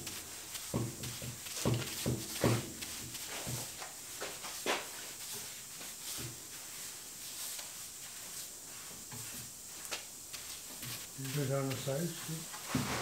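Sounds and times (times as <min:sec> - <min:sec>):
brushes swishing on wood: 0:00.0 - 0:13.0.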